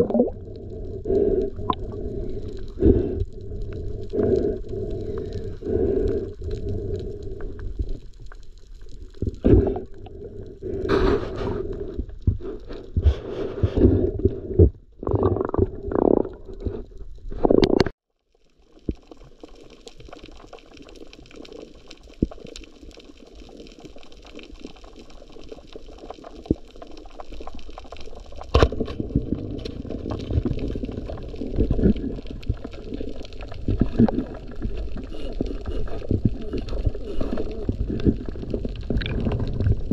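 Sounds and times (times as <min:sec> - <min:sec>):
muffled underwater water gurgling: 0:00.0 - 0:17.9, 0:18.7 - 0:39.9.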